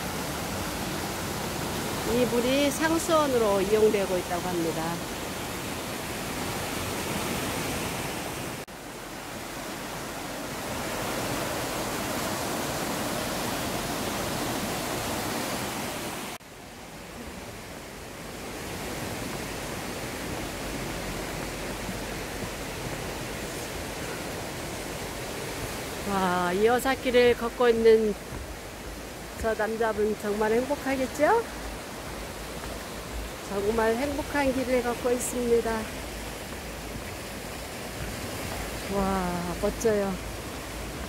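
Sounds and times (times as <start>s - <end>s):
stream rushing over boulders: 0.0s - 41.0s.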